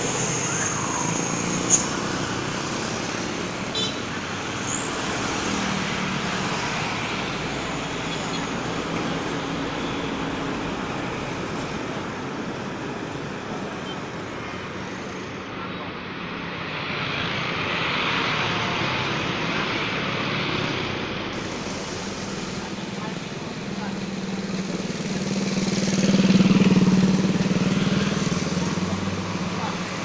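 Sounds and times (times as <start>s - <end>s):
road traffic: 0.0s - 30.0s.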